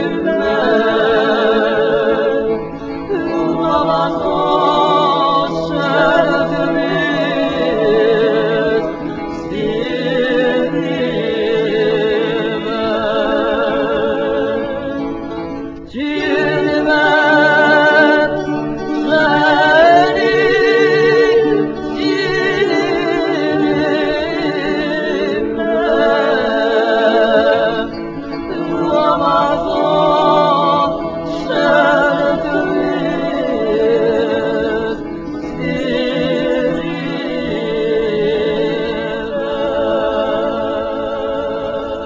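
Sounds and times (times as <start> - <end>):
women singing in harmony: 0.0 - 42.0.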